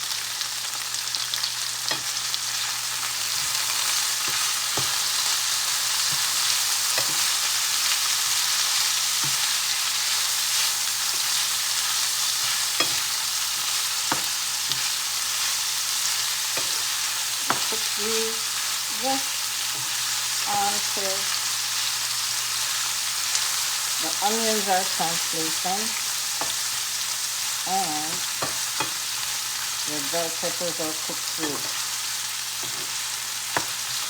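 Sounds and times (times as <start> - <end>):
food sizzling in a pan: 0.0 - 34.0.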